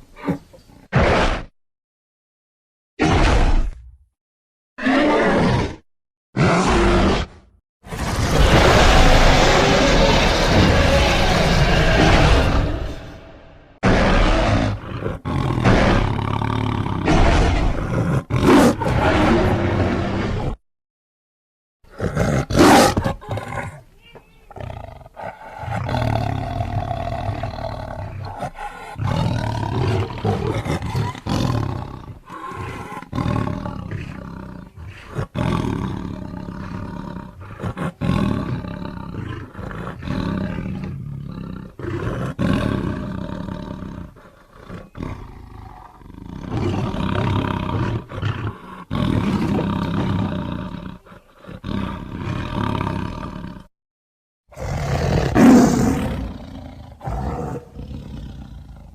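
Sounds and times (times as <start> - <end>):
creature roars: 4.8 - 5.8, 6.4 - 20.6, 24.5 - 53.7, 54.5 - 58.9.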